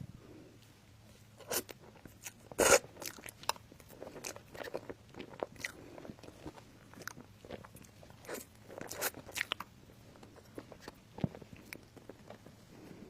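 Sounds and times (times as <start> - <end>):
crunchy food chewing: 1.2 - 13.0.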